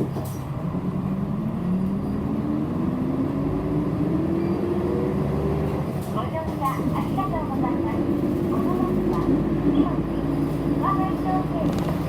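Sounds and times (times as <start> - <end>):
bus diesel engine accelerating: 0.0 - 12.0
road rumble: 0.0 - 12.0.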